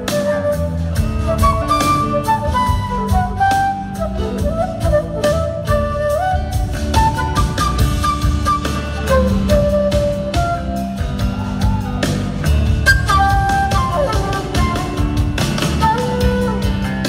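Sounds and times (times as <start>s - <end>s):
bass: 0.0s - 17.0s
drums: 0.0s - 17.0s
electric guitar: 0.0s - 17.0s
sliding lead melody: 0.0s - 17.0s.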